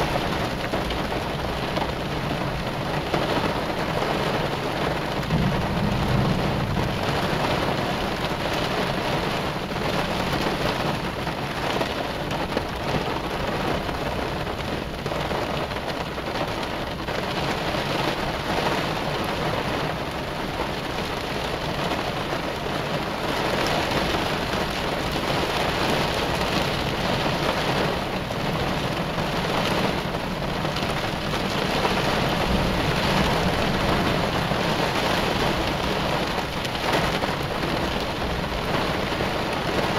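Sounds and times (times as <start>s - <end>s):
heavy rain on a car: 0.0s - 39.9s
thunder rumbling: 0.0s - 39.9s.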